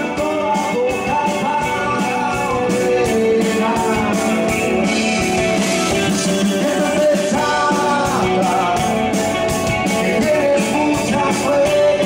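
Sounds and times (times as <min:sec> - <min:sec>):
electric bass: 0:00.0 - 0:12.0
electric guitar: 0:00.0 - 0:12.0
man singing: 0:00.0 - 0:12.0
steady drum beat: 0:00.0 - 0:12.0.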